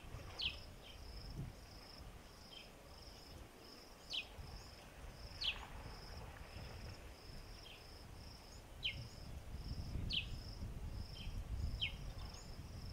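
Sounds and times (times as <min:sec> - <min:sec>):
insect chirping: 0:00.2 - 0:12.9.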